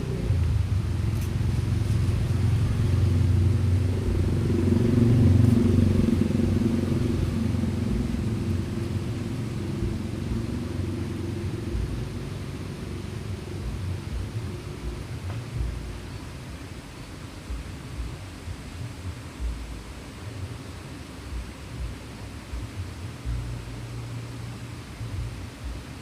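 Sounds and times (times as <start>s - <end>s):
low rumble of traffic: 0.0s - 26.0s.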